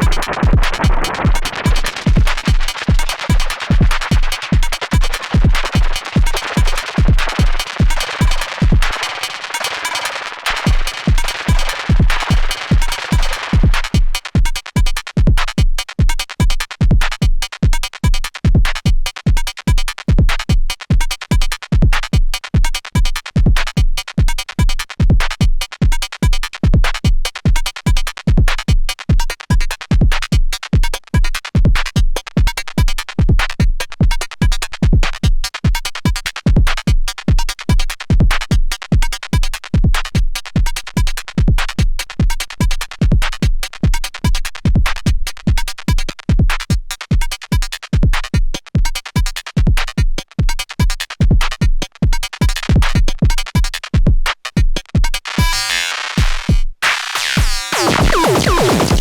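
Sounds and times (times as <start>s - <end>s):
deep electronic kick drum: 0.0s - 59.0s.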